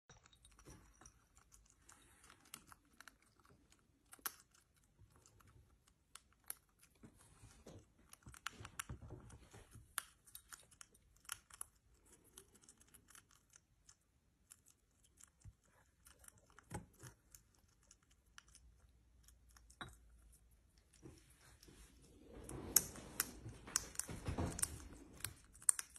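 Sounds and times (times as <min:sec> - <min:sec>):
hedgehog crunching kibble: 0:00.5 - 0:21.5, 0:22.7 - 0:25.9.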